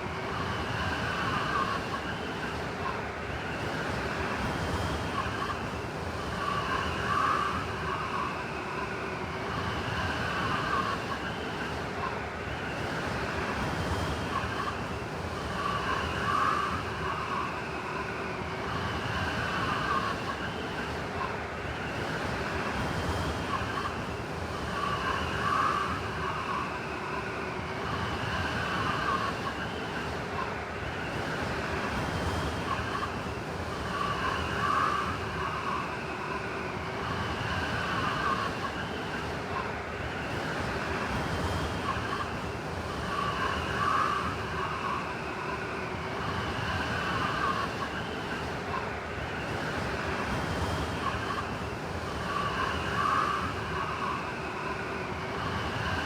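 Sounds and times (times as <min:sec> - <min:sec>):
blizzard wind whistling: 0:00.0 - 0:56.0.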